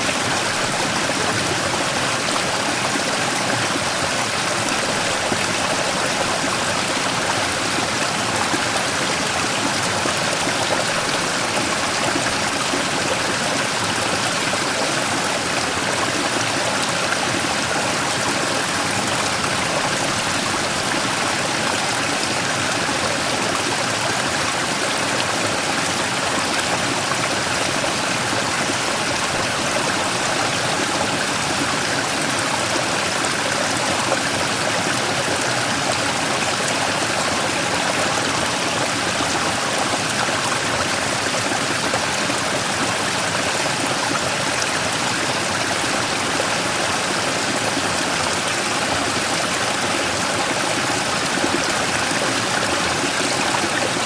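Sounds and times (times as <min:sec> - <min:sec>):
stream rushing over rock: 0:00.0 - 0:54.0.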